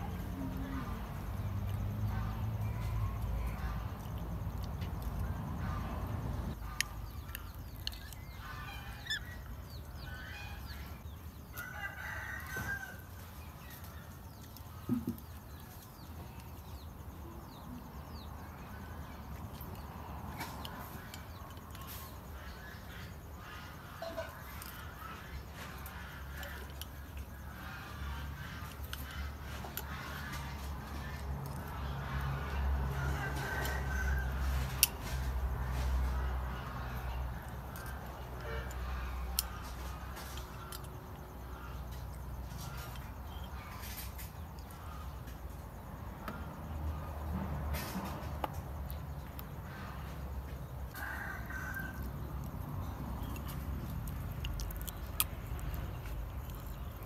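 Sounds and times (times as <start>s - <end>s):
low outdoor rumble: 0.0s - 11.4s, 13.0s - 57.0s.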